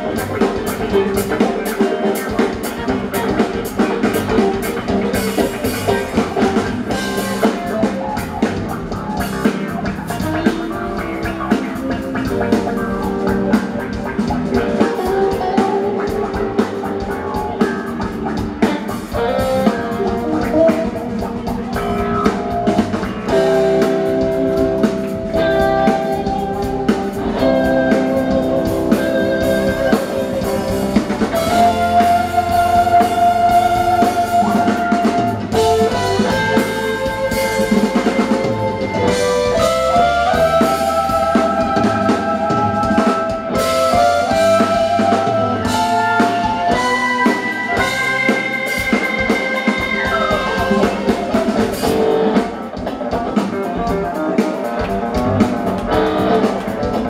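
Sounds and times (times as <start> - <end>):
held lead guitar notes: 0.0 - 57.0
live rock band playing: 0.0 - 57.0.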